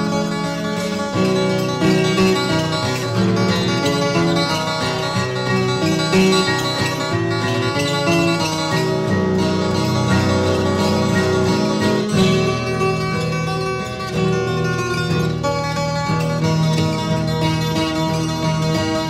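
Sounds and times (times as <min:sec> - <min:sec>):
plucked acoustic string music: 0:00.0 - 0:19.0.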